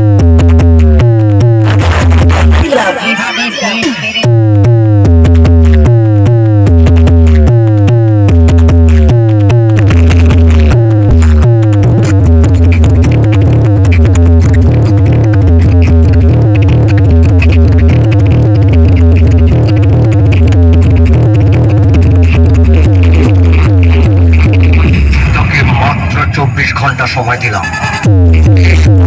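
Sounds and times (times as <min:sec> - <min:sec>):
loud electronic dance music: 0:01.6 - 0:04.8, 0:06.6 - 0:29.0.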